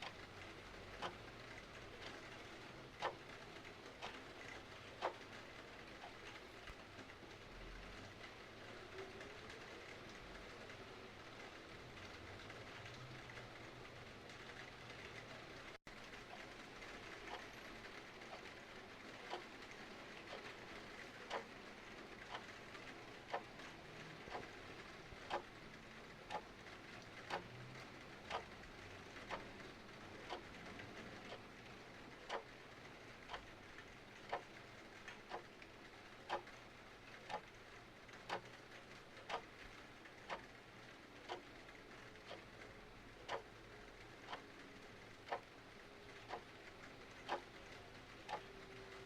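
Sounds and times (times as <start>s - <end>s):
mechanical clock ticking: 0.0s - 49.0s.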